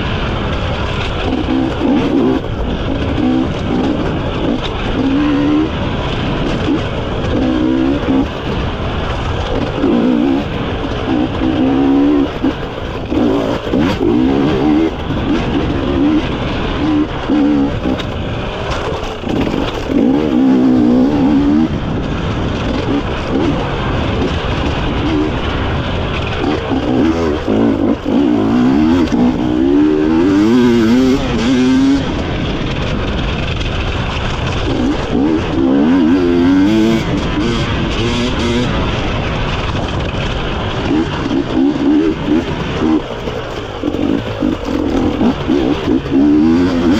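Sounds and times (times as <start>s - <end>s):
motorcycle engine revving hard: 0.0s - 46.9s.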